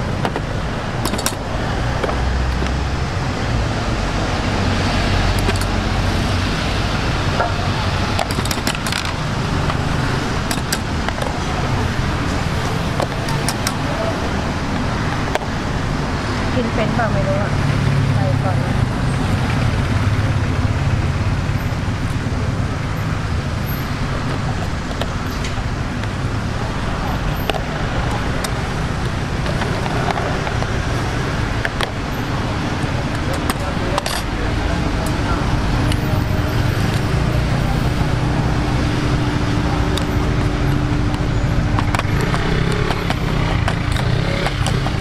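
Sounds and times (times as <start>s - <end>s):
constant hum: 0.0s - 45.0s
street rumble and hiss: 0.0s - 45.0s.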